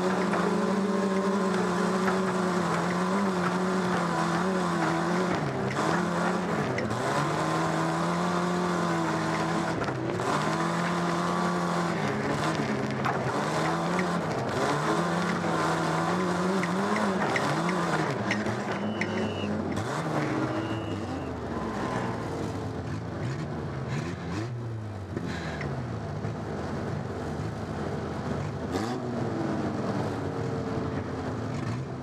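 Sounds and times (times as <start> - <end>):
car engine running hard: 0.0 - 32.0.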